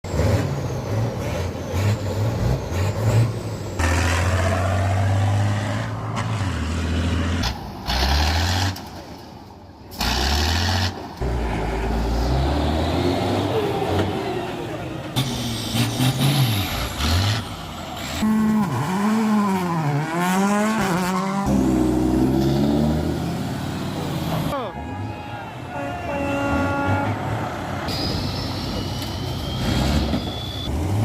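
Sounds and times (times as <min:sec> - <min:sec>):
truck diesel engines revving: 0:00.0 - 0:31.0.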